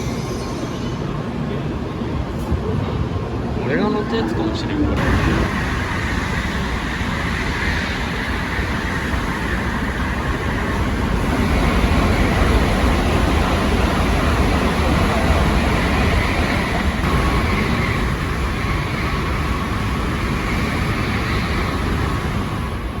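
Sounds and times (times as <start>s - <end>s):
bullet train rushing past: 0.0s - 23.0s.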